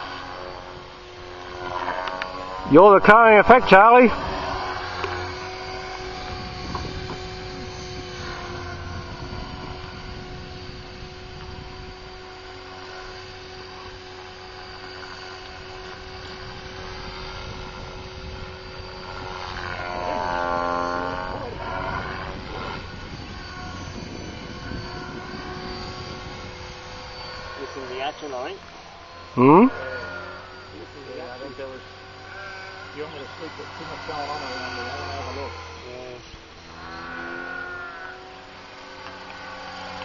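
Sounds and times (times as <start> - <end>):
rc helicopter motor whine: 0.0 - 40.0.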